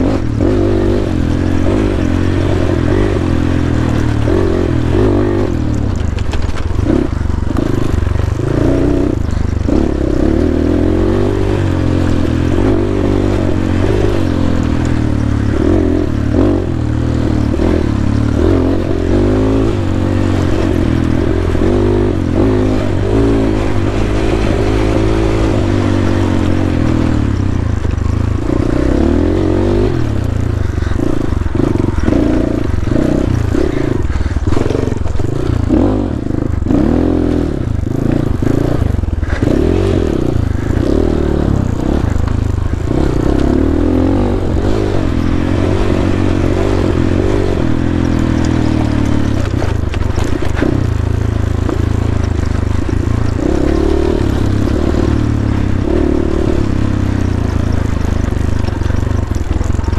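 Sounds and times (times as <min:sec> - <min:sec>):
bike clattering over rough trail: 0:00.0 - 0:59.9
dirt bike engine revving: 0:00.0 - 0:59.9.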